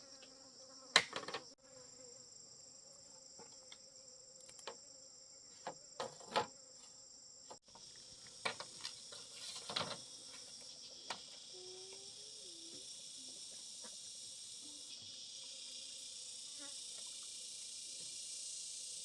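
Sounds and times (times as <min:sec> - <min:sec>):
insect chorus chirring: 0:00.0 - 0:19.0.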